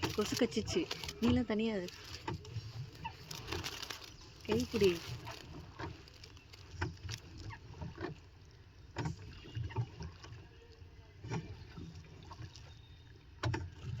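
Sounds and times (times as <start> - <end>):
water splashing against boat: 0.0 - 14.0.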